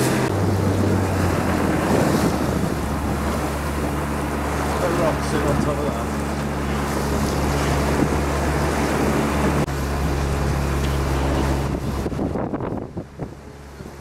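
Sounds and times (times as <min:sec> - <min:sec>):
boat engine running: 0:00.0 - 0:14.0
water noise: 0:00.0 - 0:14.0
wind: 0:00.0 - 0:14.0.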